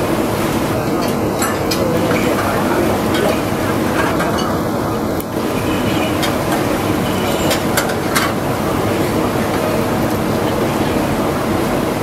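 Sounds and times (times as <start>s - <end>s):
loud background din: 0.0s - 12.0s.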